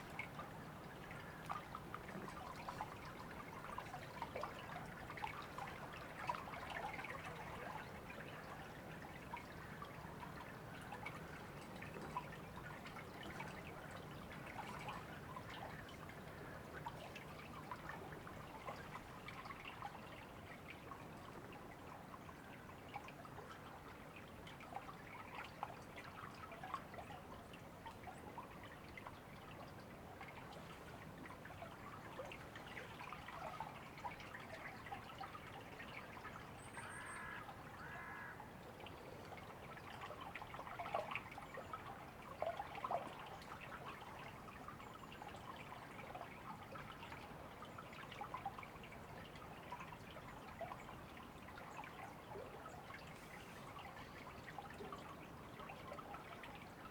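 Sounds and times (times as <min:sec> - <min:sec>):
river water babbling: 0:00.0 - 0:56.9.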